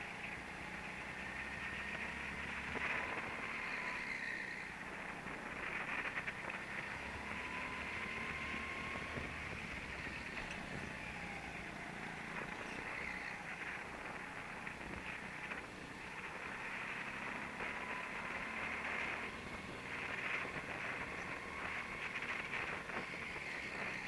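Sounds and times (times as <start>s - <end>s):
go-kart engine running with whine: 0.0s - 24.0s.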